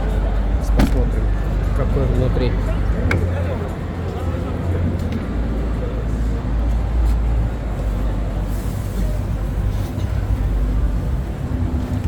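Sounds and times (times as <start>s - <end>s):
low rumble of hall background noise: 0.0s - 12.0s.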